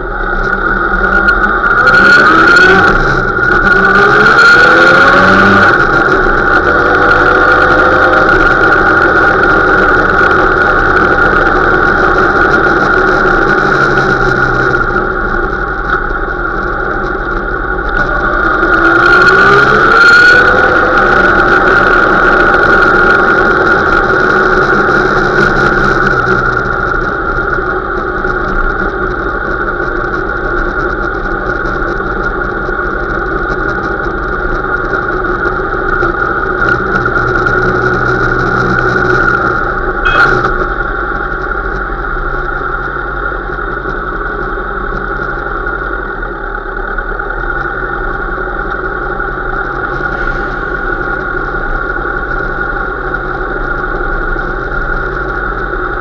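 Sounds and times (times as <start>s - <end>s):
motorcycle engine at low revs: 0.0s - 56.0s.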